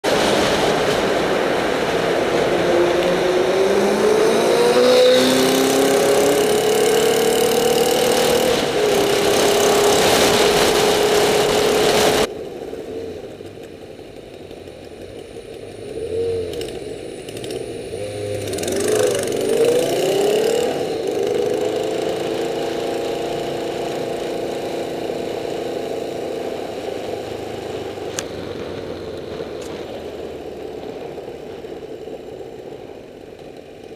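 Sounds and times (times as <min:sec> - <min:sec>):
motorcycle engine accelerating: 0:00.0 - 0:33.9
wind and road noise: 0:00.0 - 0:33.9.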